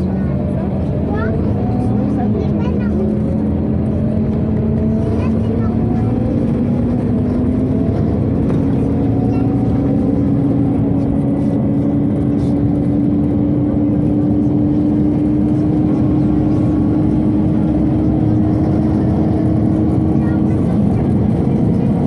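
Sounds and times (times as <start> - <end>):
bus engine and ventilation: 0.0 - 22.0.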